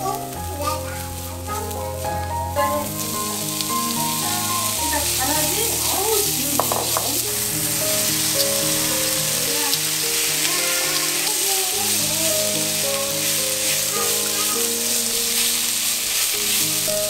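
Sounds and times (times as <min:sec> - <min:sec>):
food sizzling in hot oil: 0:00.0 - 0:17.0
soft background music: 0:00.0 - 0:17.0.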